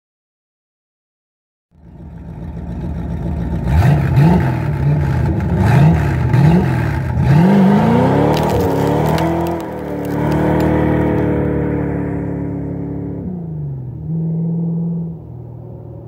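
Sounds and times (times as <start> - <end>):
car engine revving: 1.9 - 15.9.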